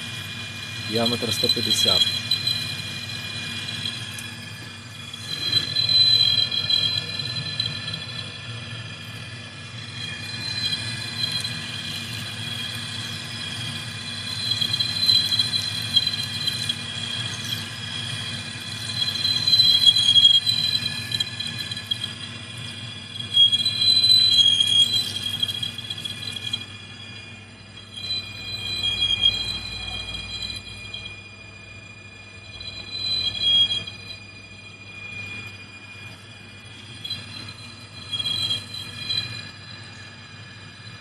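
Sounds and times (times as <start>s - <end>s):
lathe cutting tool squealing: 0.0s - 41.0s
low machine hum: 0.0s - 41.0s.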